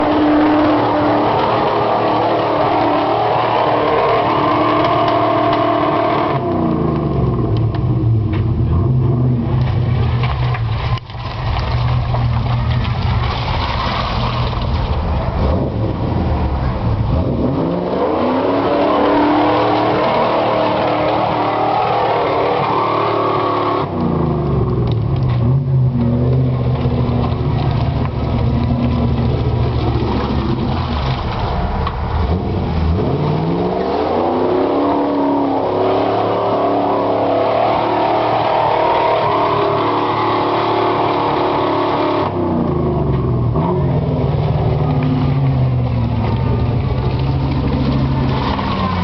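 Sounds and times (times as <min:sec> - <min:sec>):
off-road vehicle engine revving: 0:00.0 - 0:10.9, 0:15.4 - 0:49.0.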